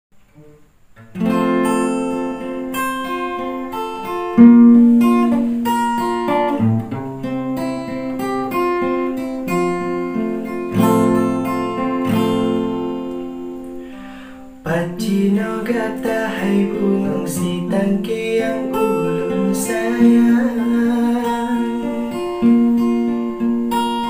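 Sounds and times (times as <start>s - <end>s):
acoustic guitar strummed chords: 0.2s - 24.0s.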